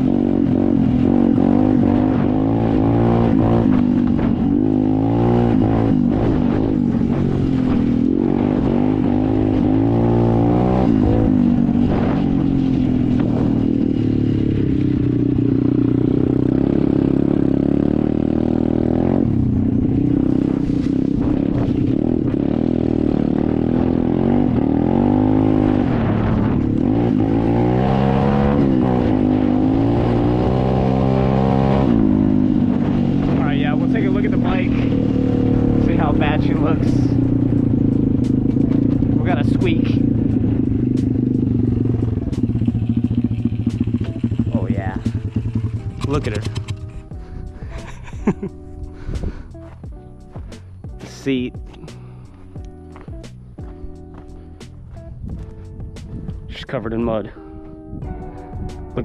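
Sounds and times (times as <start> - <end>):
dirt bike engine revving: 0.0 - 48.7.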